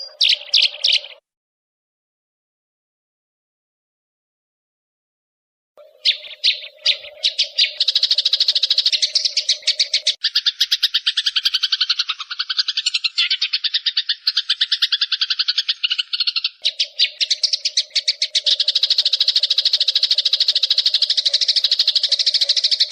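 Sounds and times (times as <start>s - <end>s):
sparrows chattering: 0.0s - 1.2s, 5.8s - 22.9s.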